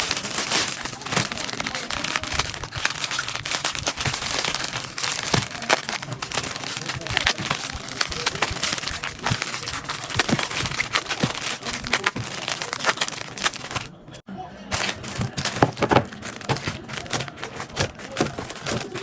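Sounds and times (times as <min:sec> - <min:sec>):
plastic packaging crinkling: 0:00.0 - 0:14.0, 0:14.7 - 0:19.0.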